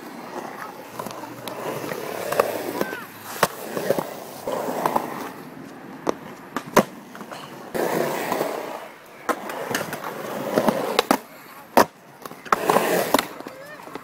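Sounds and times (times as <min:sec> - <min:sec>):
skateboard clacking on ground: 0:00.0 - 0:14.0
skateboard wheels rolling on concrete: 0:00.0 - 0:14.0.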